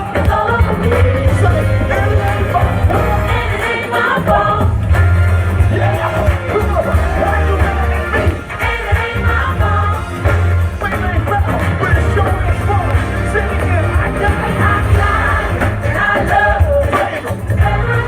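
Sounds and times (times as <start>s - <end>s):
gospel band playing: 0.0s - 18.0s.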